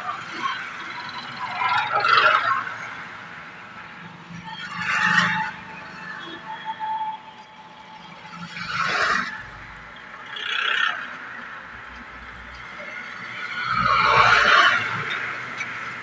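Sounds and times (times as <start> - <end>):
motorbikes passing: 0.0 - 6.6, 7.8 - 16.0
cars passing: 0.0 - 16.0.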